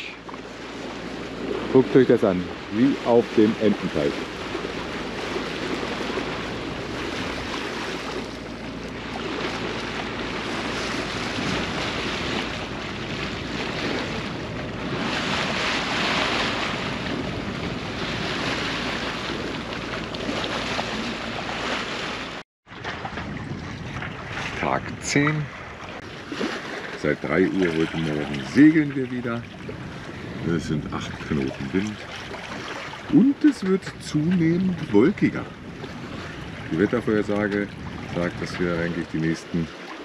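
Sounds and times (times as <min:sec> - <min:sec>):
wind rumbling on microphone: 0:00.0 - 0:39.7
water washing past a hull: 0:00.0 - 0:40.0.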